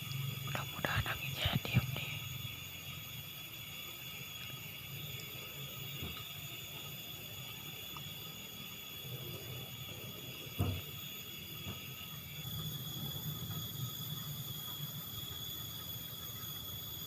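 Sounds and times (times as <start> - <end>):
steady high-pitched tones: 0.0 - 17.0.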